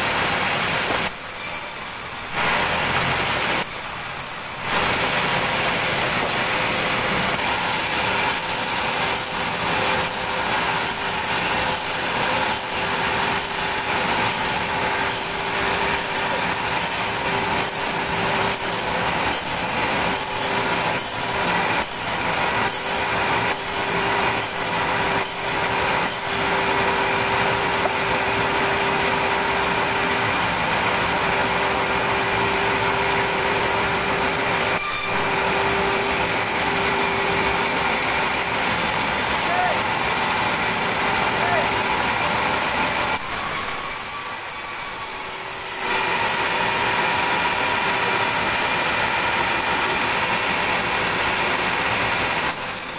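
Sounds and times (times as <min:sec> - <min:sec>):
sawmill machinery whine: 0:00.0 - 0:52.9.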